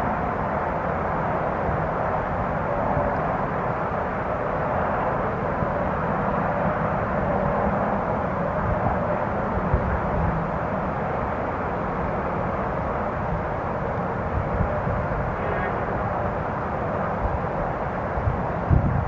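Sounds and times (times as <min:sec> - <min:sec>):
strong wind over microphone: 0:00.0 - 0:19.0.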